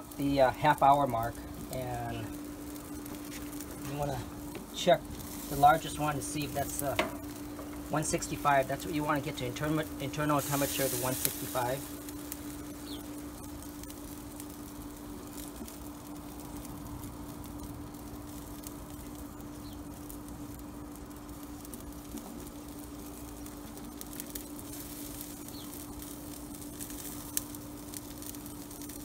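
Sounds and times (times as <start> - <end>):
chicken wings sizzling on grill: 0.0 - 29.0
steady low hum: 0.0 - 29.0.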